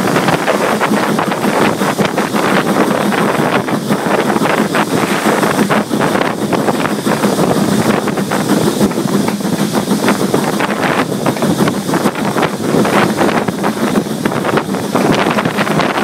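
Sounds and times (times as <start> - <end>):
steam train running: 0.0 - 16.0
wind buffeting microphone: 0.0 - 16.0.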